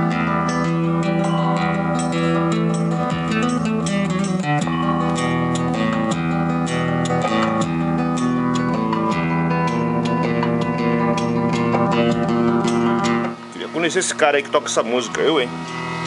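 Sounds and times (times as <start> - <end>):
loud guitar music through speaker: 0.0 - 16.0.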